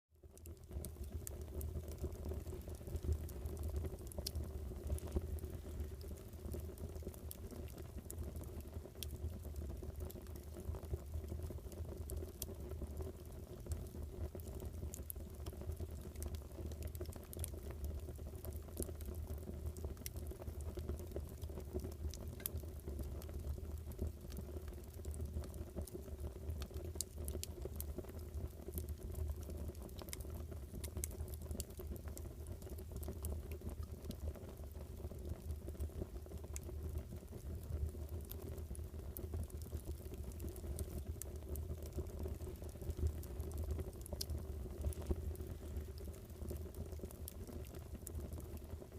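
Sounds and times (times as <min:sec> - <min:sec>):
fire crackling and popping: 0:00.2 - 0:48.9.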